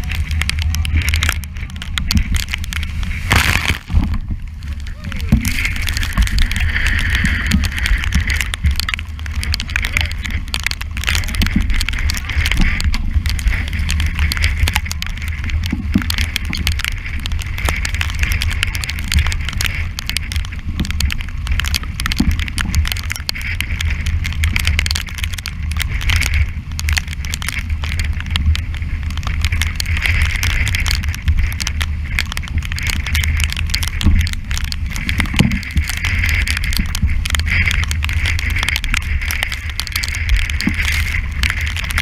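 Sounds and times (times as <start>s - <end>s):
breaking waves and spray: 0.0s - 42.0s
wind buffeting microphone: 0.0s - 42.0s.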